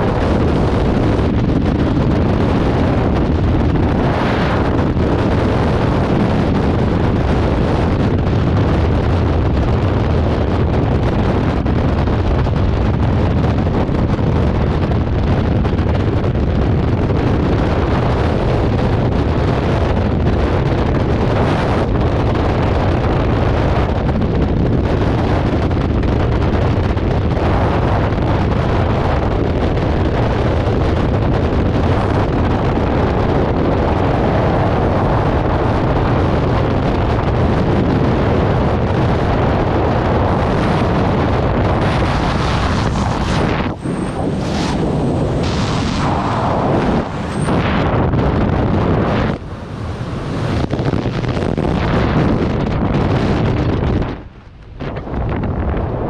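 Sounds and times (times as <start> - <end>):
freefall wind buffeting microphone: 0.0 - 56.0.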